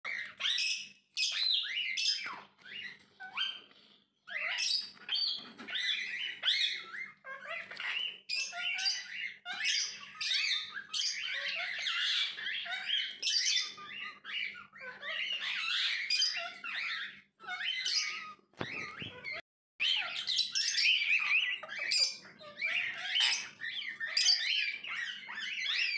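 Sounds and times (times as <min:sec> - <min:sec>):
parakeet calls: 0:00.1 - 0:25.9.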